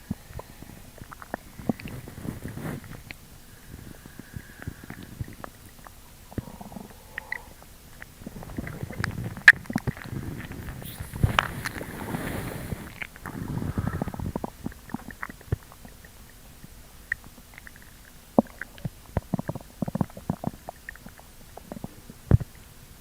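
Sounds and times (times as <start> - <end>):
stomach growling: 0.0 - 22.6.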